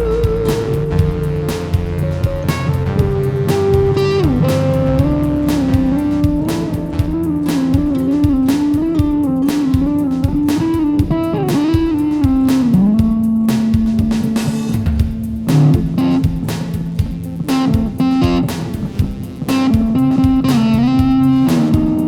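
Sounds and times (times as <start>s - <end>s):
electric guitar lead line: 0.0s - 13.3s, 17.5s - 22.0s
bass: 0.0s - 22.0s
drum hits: 0.0s - 22.0s.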